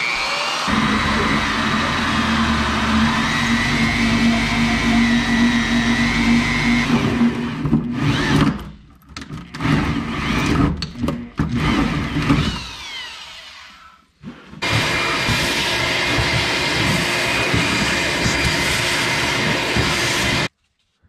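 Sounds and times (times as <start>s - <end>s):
drill cutting through steel: 0.0s - 8.6s, 9.5s - 20.5s
drill winding down whine: 0.0s - 8.6s, 11.5s - 20.5s.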